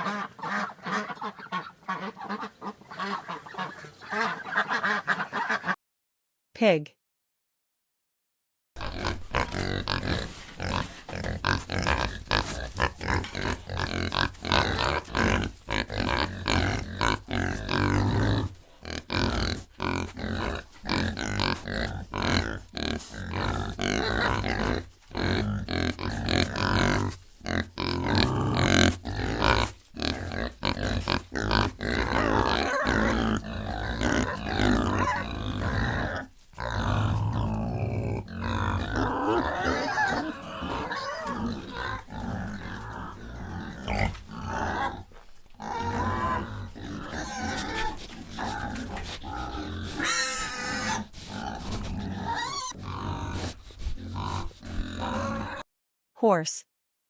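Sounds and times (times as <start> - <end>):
pigs grunting and oinking: 0.0 - 5.8, 8.8 - 55.7.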